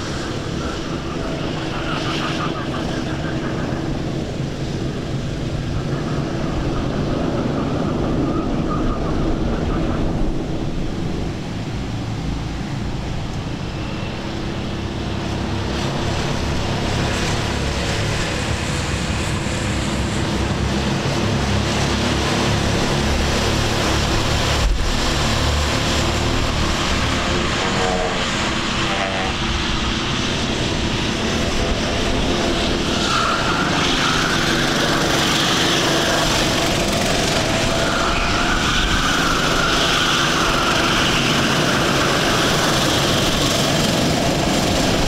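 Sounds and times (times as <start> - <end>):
go-kart engines passing: 0.0 - 45.0.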